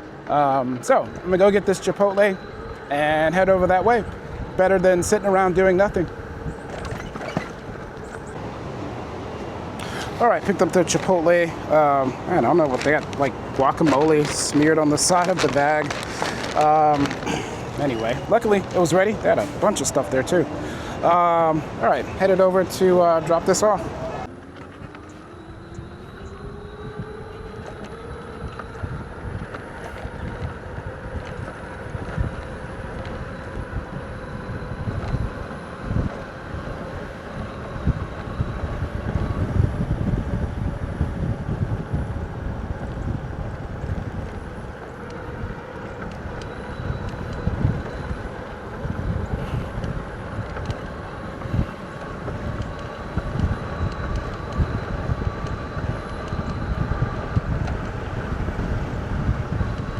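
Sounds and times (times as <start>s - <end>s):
electric bike motor whining: 0.0s - 59.9s
wind buffeting microphone: 0.0s - 59.9s.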